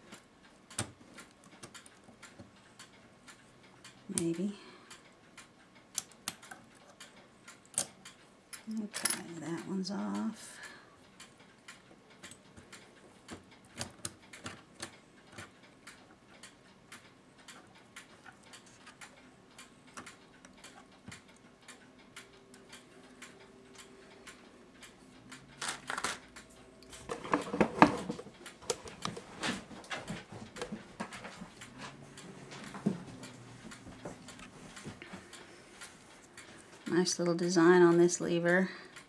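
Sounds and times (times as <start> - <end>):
metallic clicks of clock parts: 0.0 - 39.0.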